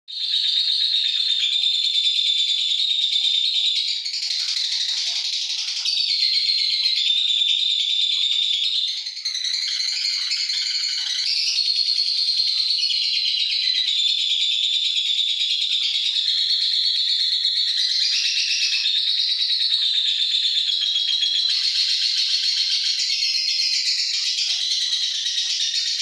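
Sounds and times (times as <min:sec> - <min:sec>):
lovebird chattering trill: 0:00.2 - 0:26.0.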